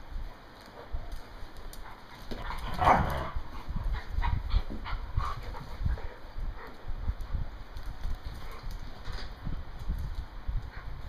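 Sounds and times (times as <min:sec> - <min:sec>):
paws scrabbling on tiles: 0:00.5 - 0:11.0.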